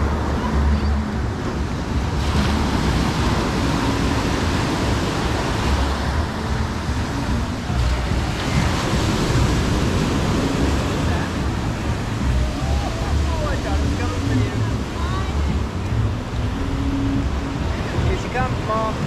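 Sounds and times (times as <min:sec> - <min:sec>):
ocean surf washing ashore: 0:00.0 - 0:19.0
wind rumbling on microphone: 0:00.0 - 0:19.0.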